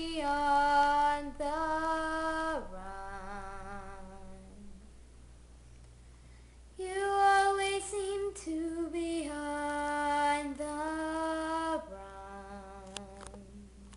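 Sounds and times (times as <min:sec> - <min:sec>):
girl singing: 0:00.0 - 0:05.0, 0:06.8 - 0:13.9.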